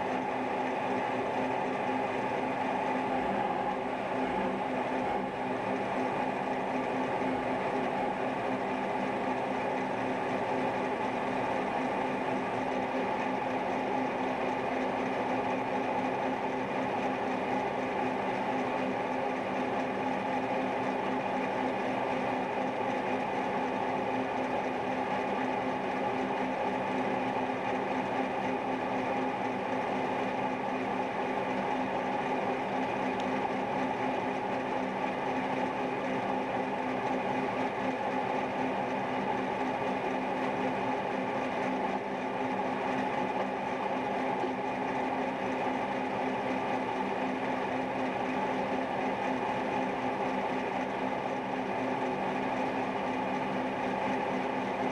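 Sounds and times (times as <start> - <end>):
milling machine humming: 0.0 - 54.9.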